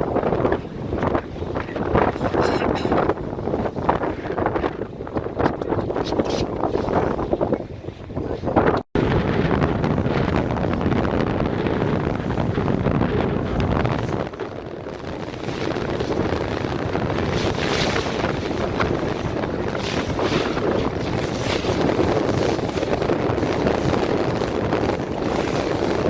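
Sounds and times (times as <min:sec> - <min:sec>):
boat noise: 0:00.0 - 0:26.0
water around boat: 0:00.0 - 0:26.0
wind buffeting microphone: 0:00.0 - 0:26.0.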